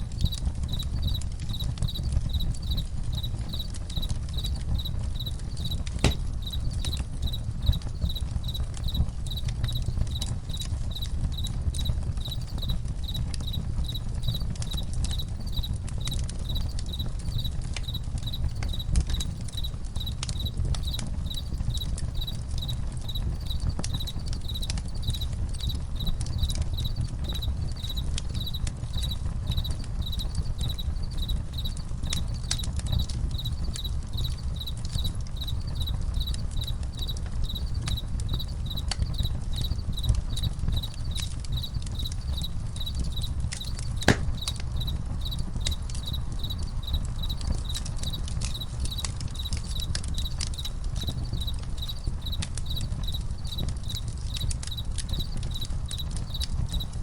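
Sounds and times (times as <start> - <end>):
campfire crackling and popping: 0.0 - 57.0
crickets chirping: 0.0 - 57.0.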